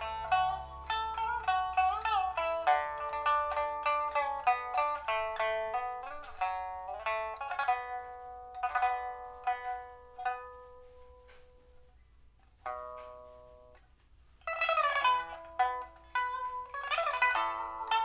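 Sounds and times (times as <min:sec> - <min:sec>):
strummed pipa chord: 0:00.0 - 0:11.9, 0:12.6 - 0:13.8, 0:14.4 - 0:18.0
pipa plucked notes: 0:00.0 - 0:18.0
pipa tremolo plucking: 0:00.0 - 0:18.0.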